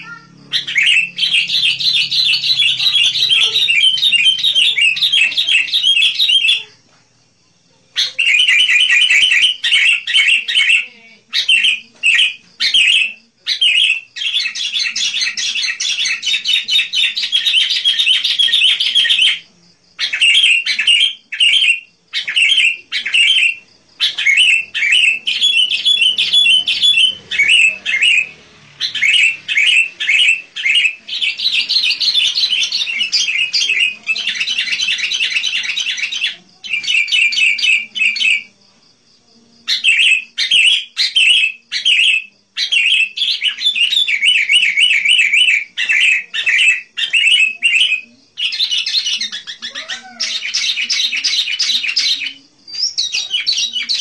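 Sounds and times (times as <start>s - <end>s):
bird chirping song: 0.0s - 38.7s, 39.6s - 54.0s.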